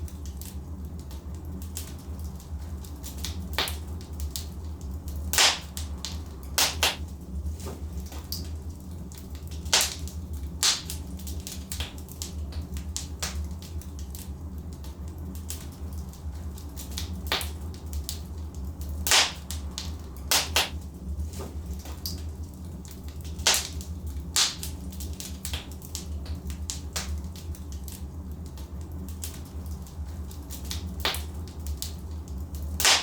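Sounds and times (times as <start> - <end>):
burning logs crackling and popping: 0.0 - 33.0
wood fire rumbling: 0.0 - 33.0.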